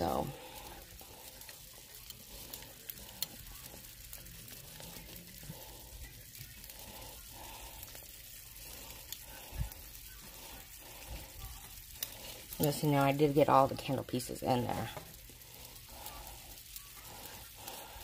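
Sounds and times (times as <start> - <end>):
water boiling hiss: 0.0 - 18.0.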